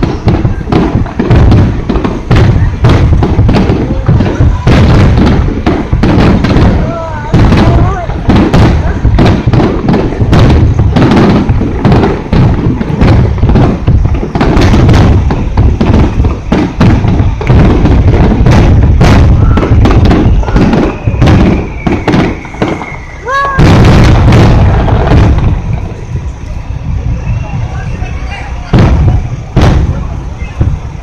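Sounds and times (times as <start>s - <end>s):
firework shells bursting: 0.0s - 26.6s.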